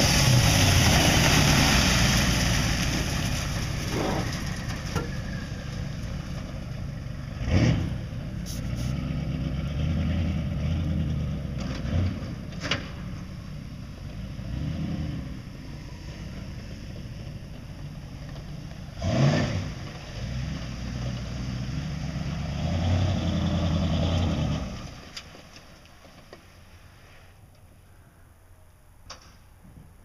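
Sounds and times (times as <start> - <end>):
turbocharged truck engine revving: 0.0 - 25.0.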